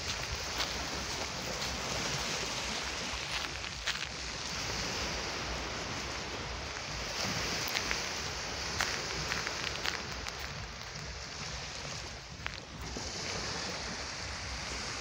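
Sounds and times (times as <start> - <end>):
waves washing up sandy shore: 0.0 - 15.0
wind buffeting microphone: 0.0 - 15.0.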